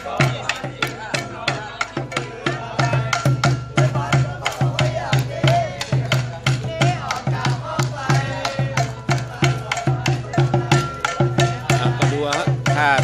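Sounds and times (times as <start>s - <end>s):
conga drums beaten with sticks: 0.0s - 13.0s
voices shouting: 0.0s - 13.0s.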